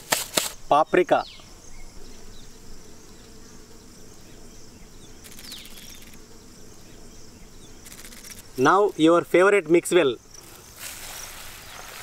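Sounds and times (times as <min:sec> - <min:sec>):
fly-like insect hum: 0:00.0 - 0:12.0
high insect chirr: 0:00.0 - 0:12.0.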